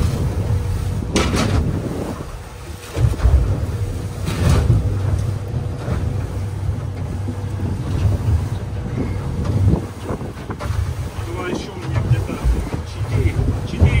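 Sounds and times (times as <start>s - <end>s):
boat engine running: 0.0s - 14.0s
wind buffeting microphone: 0.0s - 14.0s.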